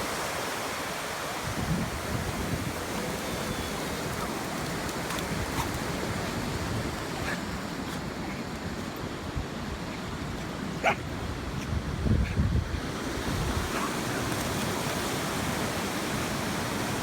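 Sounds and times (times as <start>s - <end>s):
sea surf washing onto beach: 0.0s - 17.0s.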